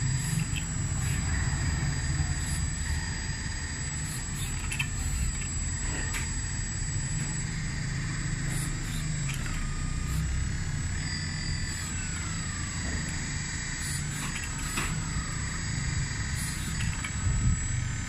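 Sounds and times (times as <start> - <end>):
hydraulic hum: 0.0 - 18.0
hydraulic whine: 0.0 - 18.0.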